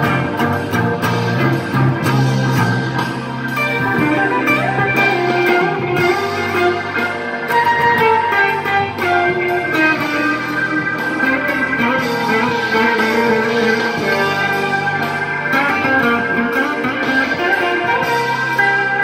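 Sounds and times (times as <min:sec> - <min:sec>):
electric guitar melody: 0:00.0 - 0:19.0.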